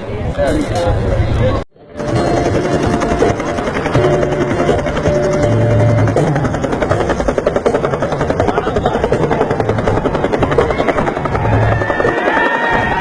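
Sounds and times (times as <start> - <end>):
helicopter rotor beating: 0.4 - 13.0.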